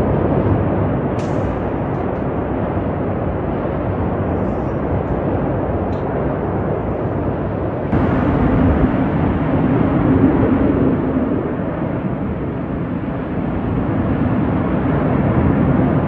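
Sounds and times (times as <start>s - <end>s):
steady low hum: 0.0s - 16.0s
gas fire roaring: 1.0s - 16.0s.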